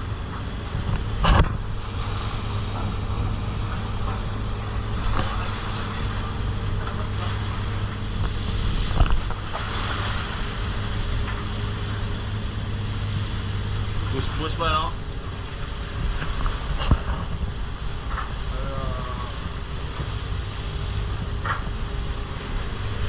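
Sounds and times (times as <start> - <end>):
boat engine drone: 0.0 - 23.0
rough sea: 0.0 - 23.0.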